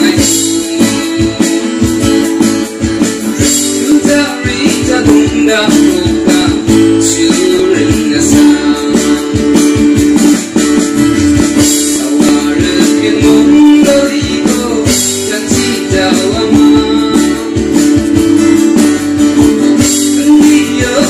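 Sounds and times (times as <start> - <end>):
acoustic guitar: 0.0 - 21.0
bass guitar: 0.0 - 21.0
steady beat: 0.0 - 21.0.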